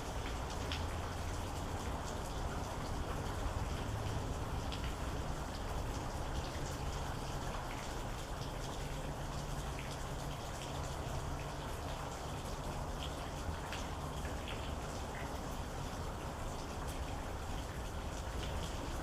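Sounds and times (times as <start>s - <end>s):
rain hiss: 0.0s - 19.0s.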